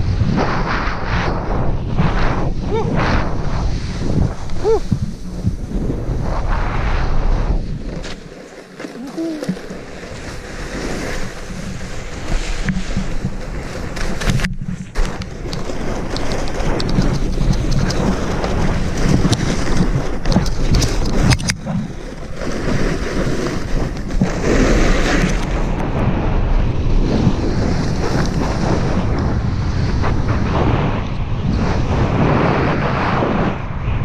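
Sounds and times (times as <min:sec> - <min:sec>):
snowboard carving on crusty snow: 0:00.0 - 0:34.0
wind rushing over microphone: 0:00.0 - 0:34.0.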